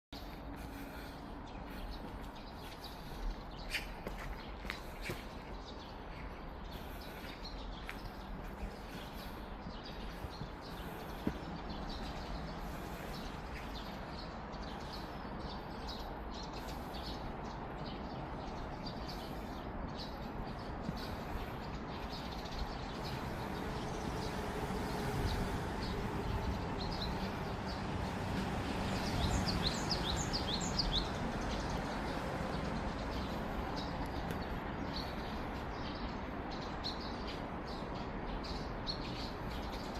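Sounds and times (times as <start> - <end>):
small birds chirping: 0.2 - 39.9.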